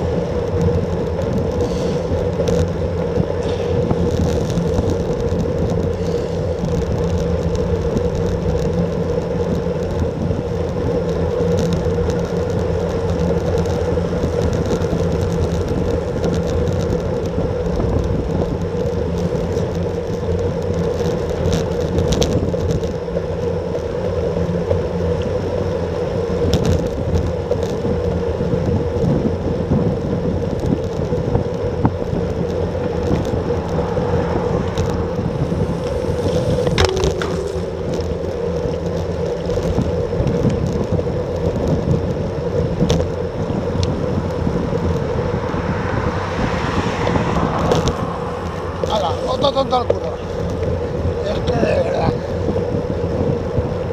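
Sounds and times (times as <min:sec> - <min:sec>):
wind rush: 0:00.0 - 0:22.8, 0:26.5 - 0:53.9
tyre road noise: 0:00.0 - 0:53.9.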